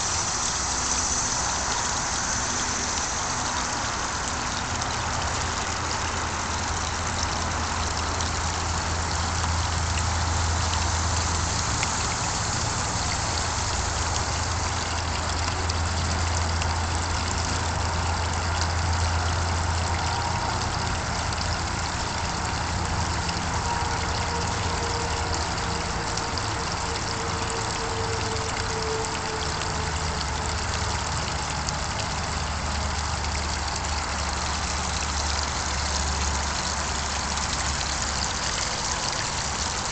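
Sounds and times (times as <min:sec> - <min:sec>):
fountain spraying into pond: 0:00.0 - 0:39.9
low steady hum: 0:00.0 - 0:39.9
waterfall splashing over rocks: 0:00.0 - 0:39.9.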